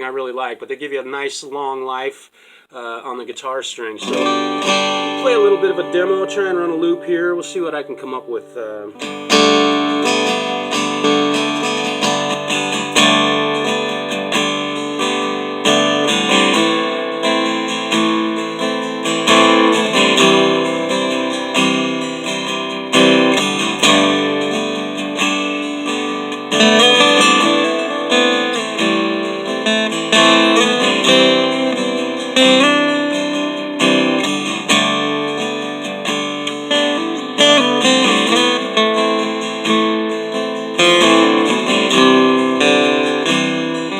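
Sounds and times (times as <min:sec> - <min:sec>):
acoustic guitar strumming: 0:03.1 - 0:43.9.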